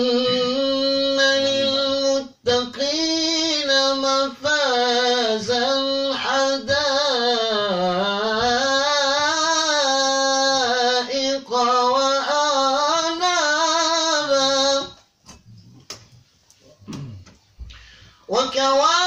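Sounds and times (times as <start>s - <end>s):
man chanting recitation: 0.0s - 15.8s, 18.3s - 19.0s.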